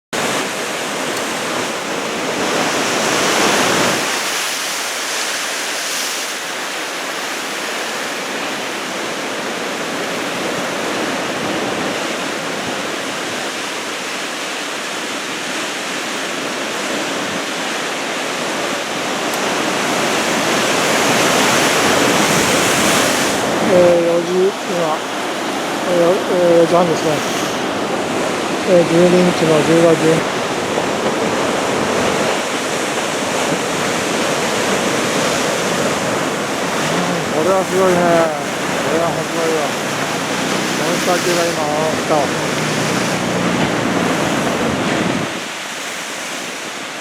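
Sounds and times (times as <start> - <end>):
roar of breaking waves: 0.2 - 47.0.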